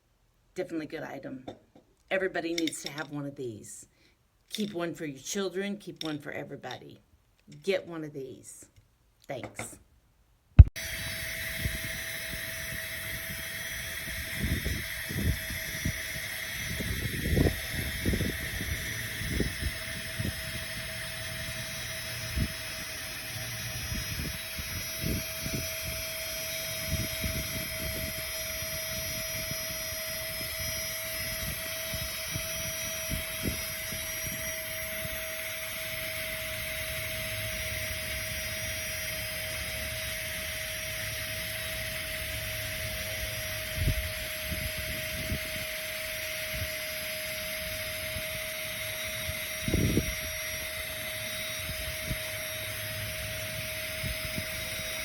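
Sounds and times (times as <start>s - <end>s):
portable air pump whining: 10.7s - 55.0s.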